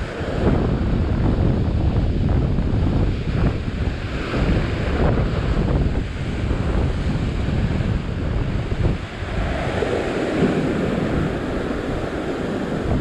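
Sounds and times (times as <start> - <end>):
surf breaking over rocks: 0.0 - 13.0
wind buffeting microphone: 0.0 - 13.0.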